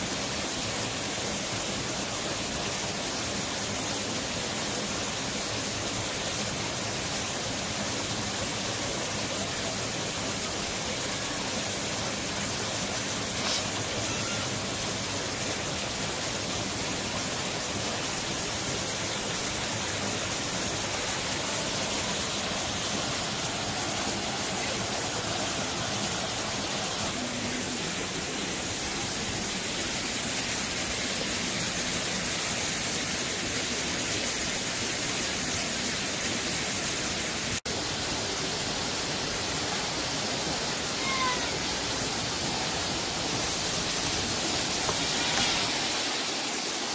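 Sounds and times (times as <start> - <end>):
water rushing into a pool: 0.0 - 46.9.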